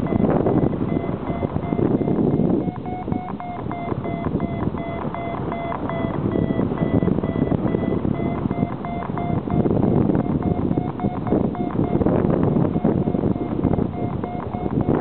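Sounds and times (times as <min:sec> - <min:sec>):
variometer short beeps: 0:00.0 - 0:15.0
wind on microphone: 0:00.0 - 0:15.0.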